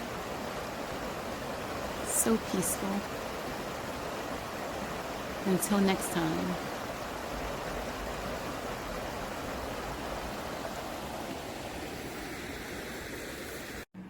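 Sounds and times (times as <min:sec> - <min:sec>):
flowing water rushing: 0:00.0 - 0:13.9.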